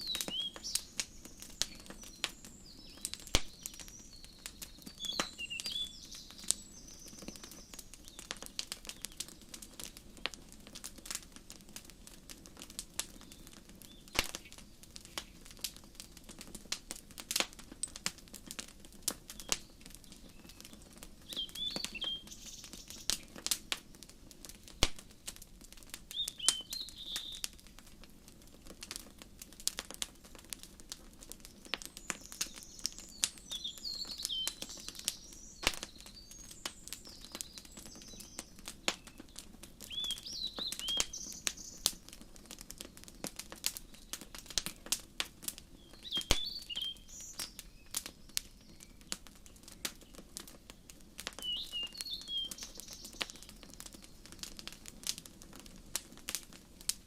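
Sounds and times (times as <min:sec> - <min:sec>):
small birds chirping: 0:00.0 - 0:27.8, 0:28.6 - 0:55.6
wood fire crackling and popping: 0:00.0 - 0:57.0.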